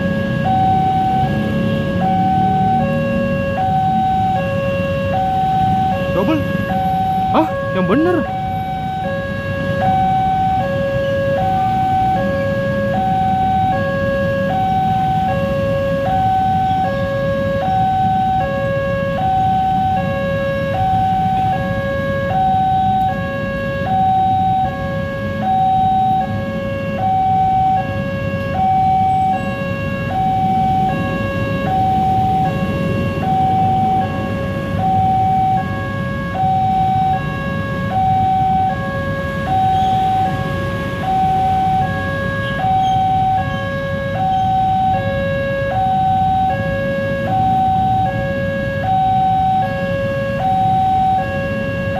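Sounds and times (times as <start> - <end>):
two-tone crossing alarm: 0.0 - 51.9.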